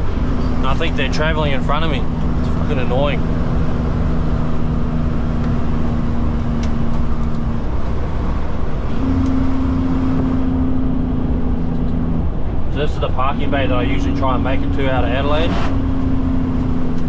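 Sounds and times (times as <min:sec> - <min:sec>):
diesel engine running: 0:00.0 - 0:17.0
road noise: 0:00.0 - 0:17.0.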